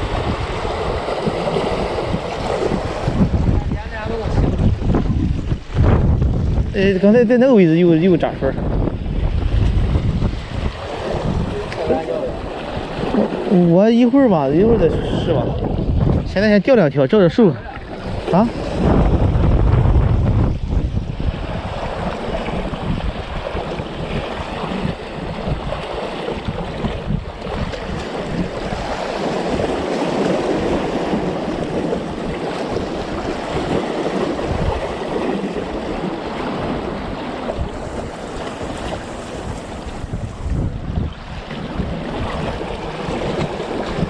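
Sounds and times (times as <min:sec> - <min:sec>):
waves washing against shore: 0:00.0 - 0:44.0
wind buffeting microphone: 0:00.0 - 0:44.0.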